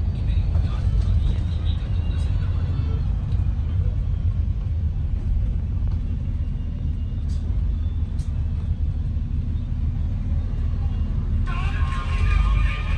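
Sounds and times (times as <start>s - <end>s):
bus engine rumble: 0.0s - 12.9s.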